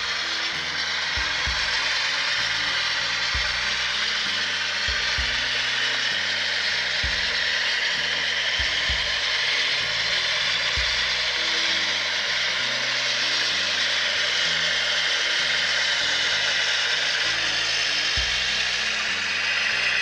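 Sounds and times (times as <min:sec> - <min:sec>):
diesel engine drone: 0:00.0 - 0:20.0
model train motor whirring: 0:00.0 - 0:20.0.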